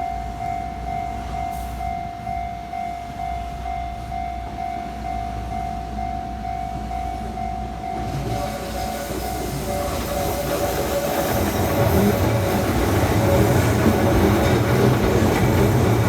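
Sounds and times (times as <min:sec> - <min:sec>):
level-crossing alarm ringing: 0:00.0 - 0:16.0.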